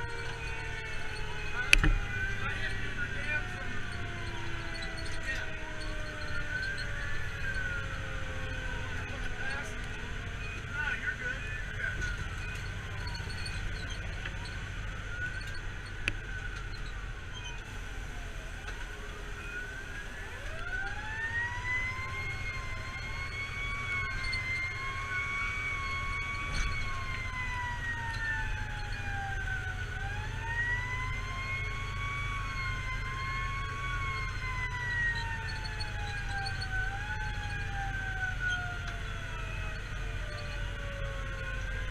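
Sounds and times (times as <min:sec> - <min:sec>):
fire engine siren wailing: 0:00.0 - 0:41.9
truck engine and road rumble: 0:00.0 - 0:41.9.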